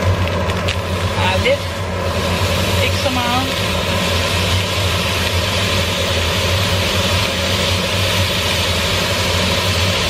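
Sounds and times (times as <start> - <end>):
low hum: 0.0 - 10.0
steak sizzling in a grill pan: 0.0 - 10.0.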